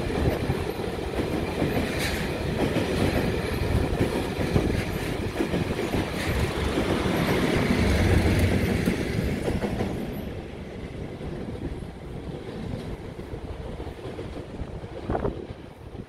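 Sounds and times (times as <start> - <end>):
diesel locomotive rumbling past: 0.0 - 16.0.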